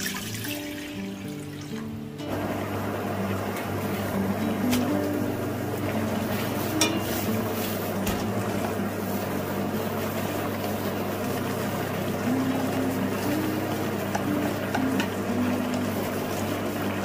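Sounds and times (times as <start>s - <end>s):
water boiling in a pan: 0.0s - 17.0s.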